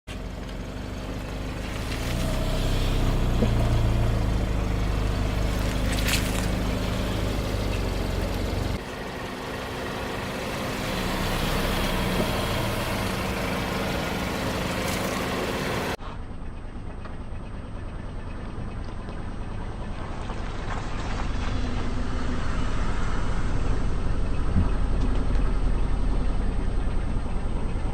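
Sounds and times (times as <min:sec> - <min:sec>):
car engine running: 0:00.1 - 0:27.9.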